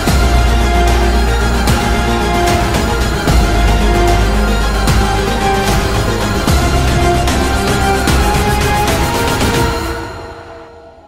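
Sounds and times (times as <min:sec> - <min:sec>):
soundtrack music with heavy bass: 0:00.0 - 0:10.8
low beat: 0:00.1 - 0:09.2.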